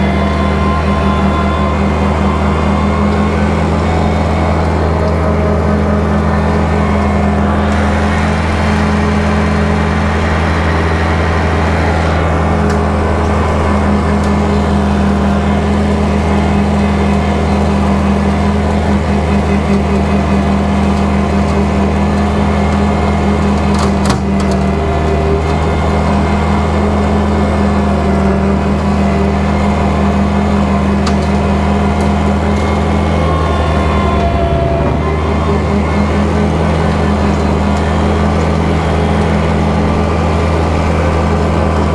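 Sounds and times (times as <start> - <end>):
rotary cutter running: 0.0 - 41.9
tractor diesel engine running: 0.0 - 41.9.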